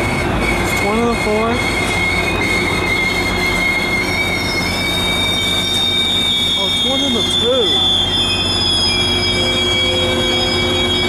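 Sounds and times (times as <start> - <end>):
train wheels rumbling on rails: 0.0 - 11.0
wheels squealing: 0.0 - 11.0.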